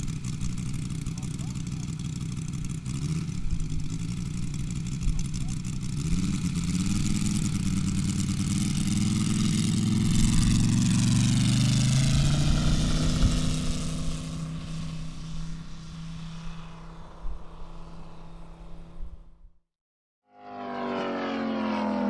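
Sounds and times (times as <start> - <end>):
model airplane engine: 0.0 - 19.5, 20.3 - 22.0.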